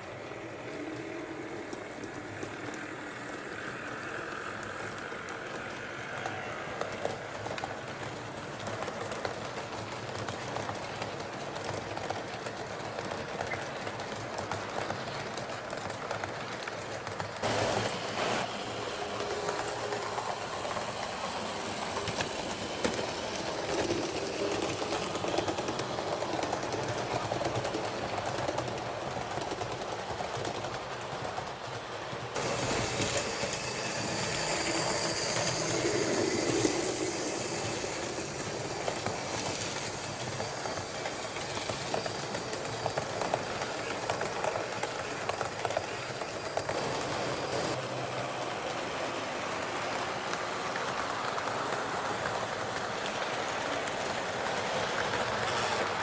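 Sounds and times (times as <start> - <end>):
model train rolling on track: 0.0 - 56.0
wheels clicking over rail joints: 0.0 - 56.0.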